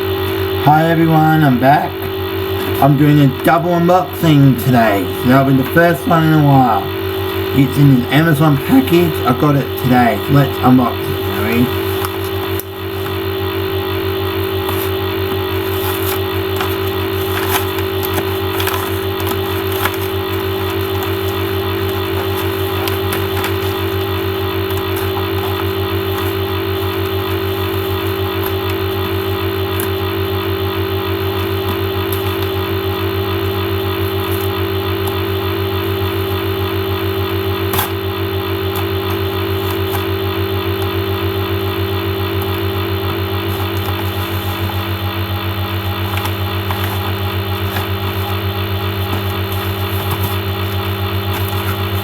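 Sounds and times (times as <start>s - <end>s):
mechanical hum with flutter: 0.0s - 52.0s.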